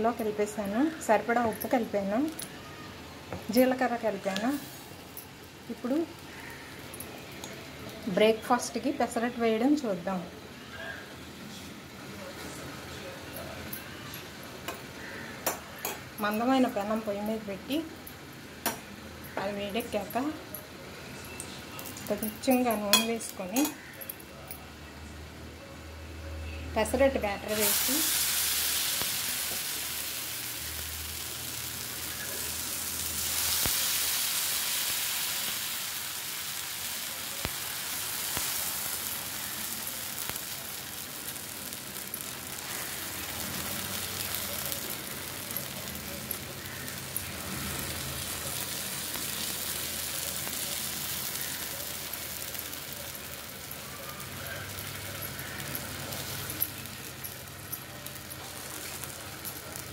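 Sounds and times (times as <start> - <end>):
batter sizzling on hot pan: 0.0 - 23.9, 26.8 - 59.9.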